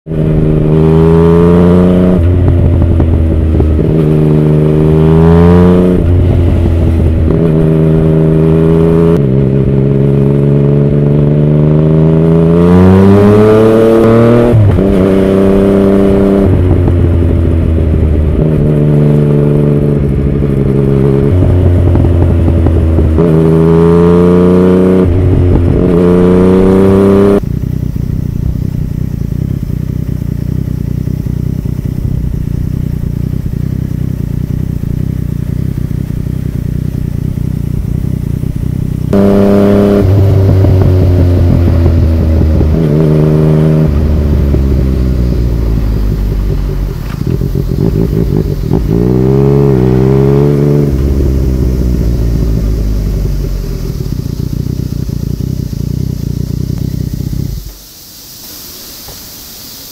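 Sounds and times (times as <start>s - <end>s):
motorcycle engine revving while riding: 0.1s - 57.9s.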